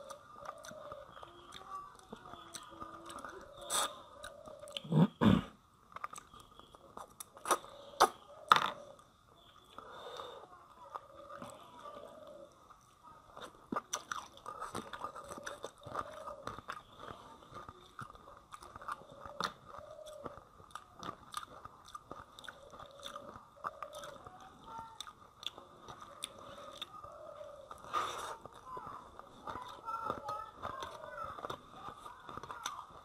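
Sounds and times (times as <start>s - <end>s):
person chewing and lip smacking: 0.0s - 5.3s, 5.9s - 8.2s, 13.3s - 33.0s.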